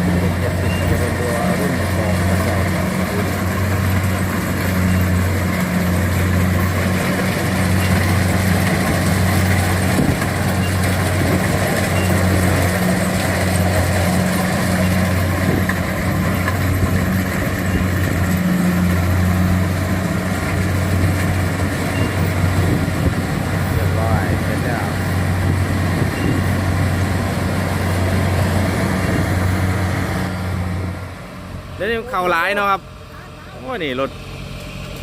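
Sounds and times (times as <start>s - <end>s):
combine harvester engine humming: 0.0s - 35.0s.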